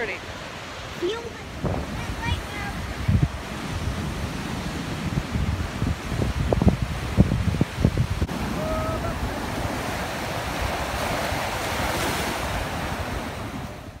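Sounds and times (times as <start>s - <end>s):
ocean surf breaking: 0.0s - 14.0s
wind buffeting microphone: 0.1s - 14.0s.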